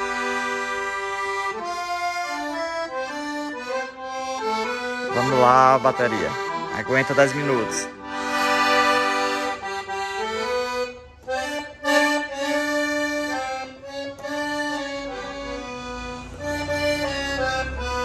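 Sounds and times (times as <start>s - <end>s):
accordion melody: 0.0s - 18.0s.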